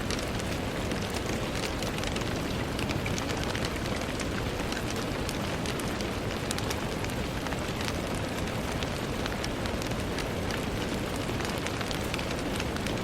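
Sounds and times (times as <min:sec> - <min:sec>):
raindrops ticking on window: 0:00.0 - 0:13.0
soft wash of rainfall: 0:00.0 - 0:13.0.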